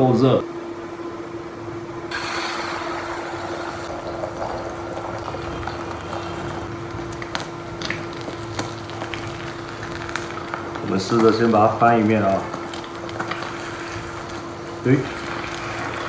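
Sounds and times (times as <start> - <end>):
low steady hum: 0.0 - 16.0
egg sizzling in hot oil: 2.1 - 16.0.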